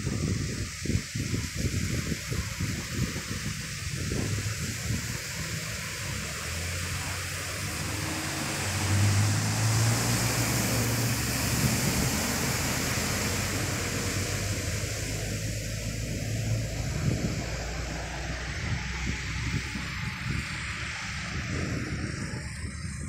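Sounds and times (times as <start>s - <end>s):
truck engine hum: 0.0s - 23.0s
tyres splashing through water: 0.0s - 23.0s.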